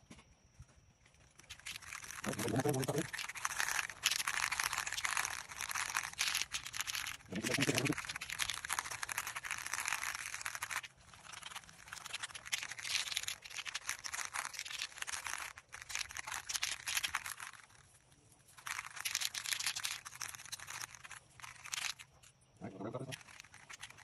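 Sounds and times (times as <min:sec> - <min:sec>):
plastic sheet crinkling: 0:01.2 - 0:24.0.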